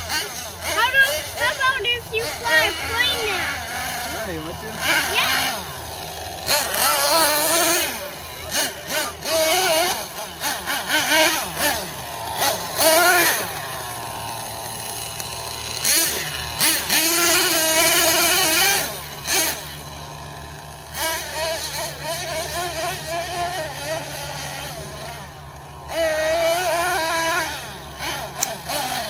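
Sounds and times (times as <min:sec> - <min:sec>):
nitro engine revving: 0:00.0 - 0:29.0.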